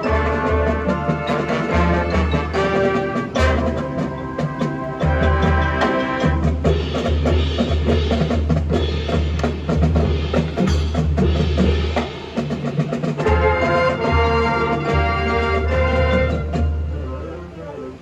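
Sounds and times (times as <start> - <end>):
percussion striking steadily: 0.0 - 16.9
brass chords: 0.0 - 17.2
marching band playing: 0.0 - 17.7.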